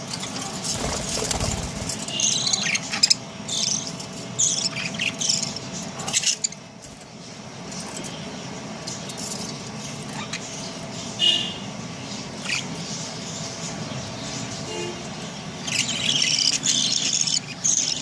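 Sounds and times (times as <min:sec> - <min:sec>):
budgerigars chirping: 0:00.7 - 0:06.7, 0:08.9 - 0:18.0.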